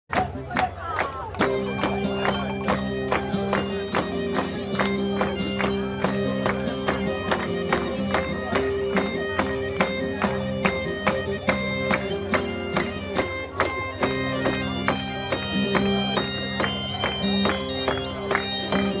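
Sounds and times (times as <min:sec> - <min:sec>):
bagpipes with drones: 0:01.4 - 0:19.0.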